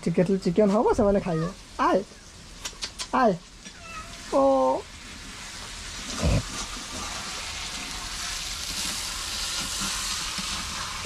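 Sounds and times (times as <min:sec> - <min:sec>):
curry sizzling in a pan: 0:00.2 - 0:11.0.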